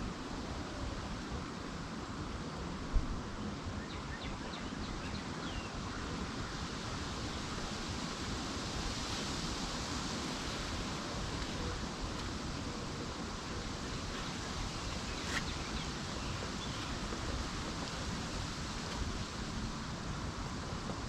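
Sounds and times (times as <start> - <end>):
outdoor wind noise: 0.0 - 21.0.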